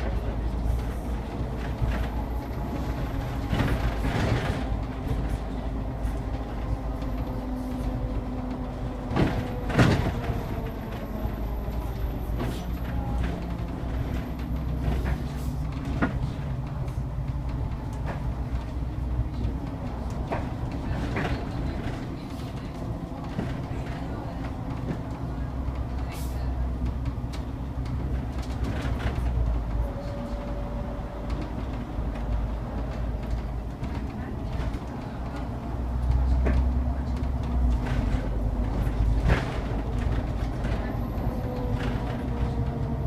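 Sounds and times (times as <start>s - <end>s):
bus engine rumble and drone: 0.0s - 43.0s.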